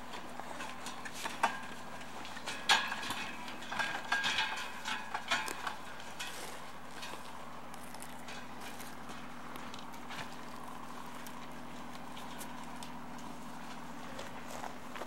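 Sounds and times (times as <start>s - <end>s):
wooden handcart knocking and clanking: 0.0s - 15.0s.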